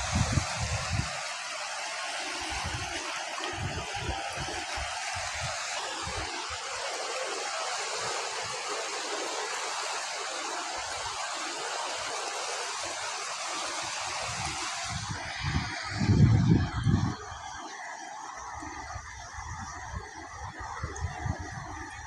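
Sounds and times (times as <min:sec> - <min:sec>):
river rushing: 0:00.0 - 0:18.8.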